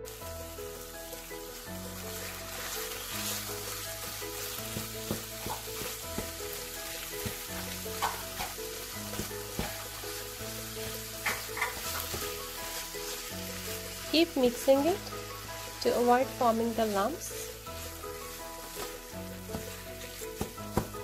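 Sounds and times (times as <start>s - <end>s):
meat sizzling in a pan: 0.0s - 21.0s
spatula scraping and knocking pan: 2.6s - 21.0s.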